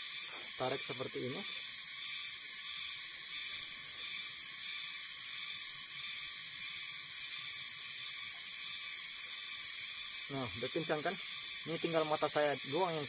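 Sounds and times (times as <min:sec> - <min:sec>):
shrill insect chorus: 0:00.0 - 0:13.0.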